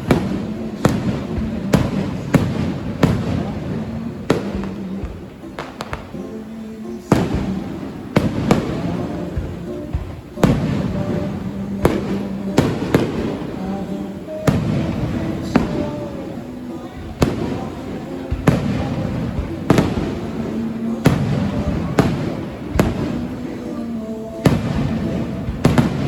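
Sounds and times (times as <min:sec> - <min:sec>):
fireworks bangs: 0:00.0 - 0:26.0
music: 0:00.0 - 0:26.0
voices: 0:00.0 - 0:26.0.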